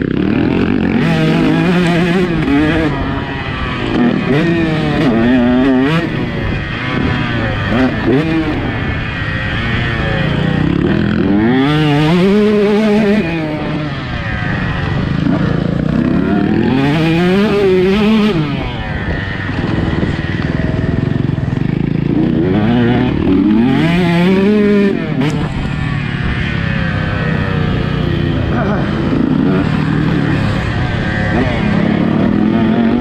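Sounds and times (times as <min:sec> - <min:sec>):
two-stroke motorbike engine revving: 0:00.0 - 0:33.0.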